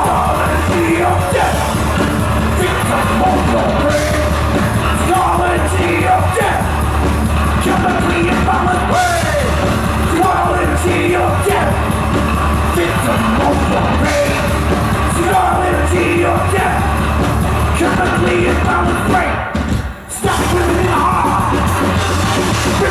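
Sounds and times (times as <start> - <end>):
shouted vocals: 0.0 - 22.9
thrash metal band playing: 0.0 - 22.9.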